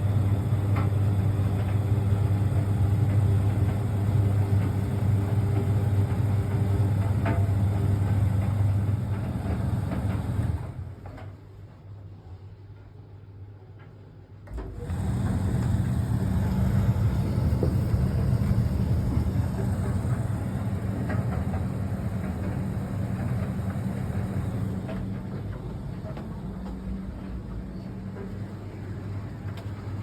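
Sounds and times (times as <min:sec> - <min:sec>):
clothes dryer running: 0:00.0 - 0:11.6, 0:14.4 - 0:30.0.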